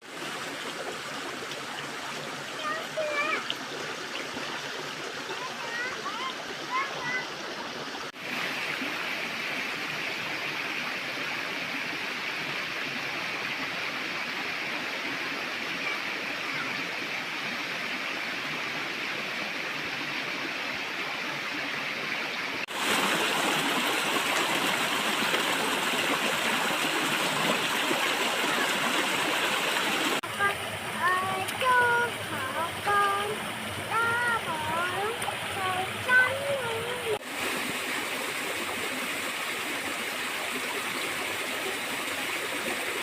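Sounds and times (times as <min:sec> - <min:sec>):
stream rushing: 0:00.0 - 0:43.0.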